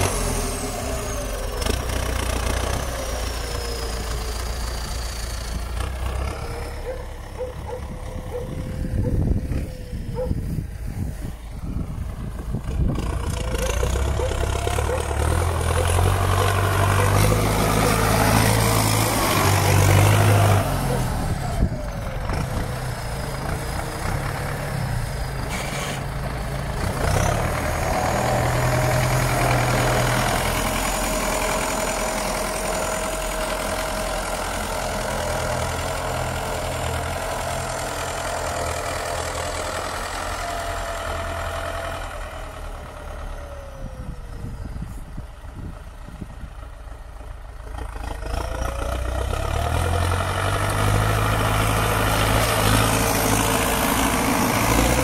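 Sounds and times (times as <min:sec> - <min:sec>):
tractor diesel engine working: 0:00.0 - 0:55.0.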